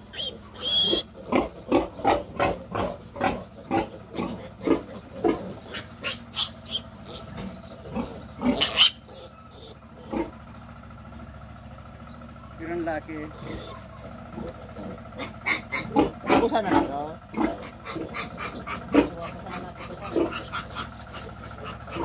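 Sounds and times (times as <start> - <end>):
piglet squealing: 0.0 - 10.2, 13.3 - 22.0.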